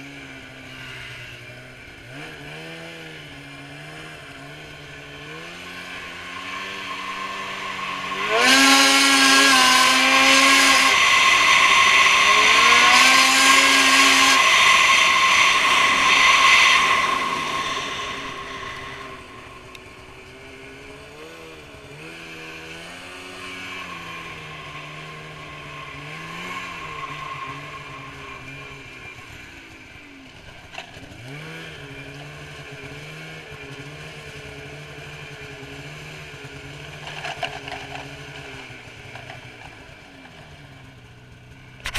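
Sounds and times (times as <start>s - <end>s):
snowmobile engine revving: 0.0s - 40.0s.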